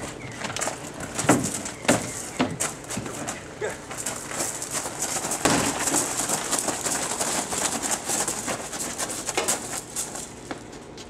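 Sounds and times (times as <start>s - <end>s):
boots crunching on gravel: 0.0s - 11.0s.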